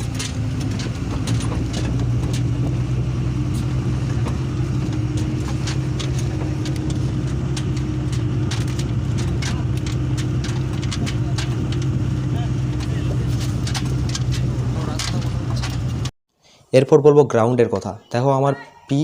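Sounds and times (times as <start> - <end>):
light clicks and knocks: 0.0 - 16.1
vehicle engine running: 0.0 - 16.2.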